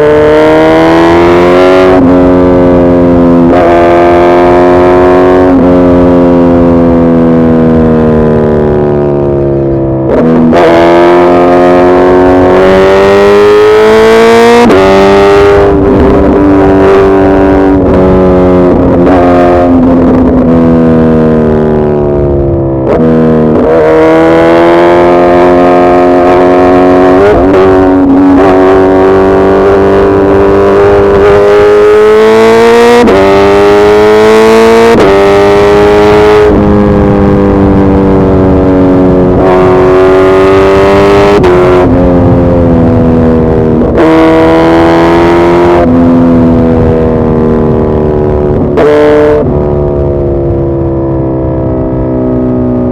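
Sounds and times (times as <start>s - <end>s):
motorcycle engine running hard: 0.0s - 52.9s.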